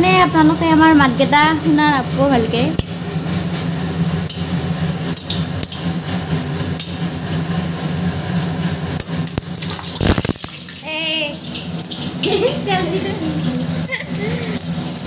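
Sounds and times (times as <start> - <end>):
exhaust fan humming: 0.0 - 15.0
frying in hot oil: 0.0 - 15.0.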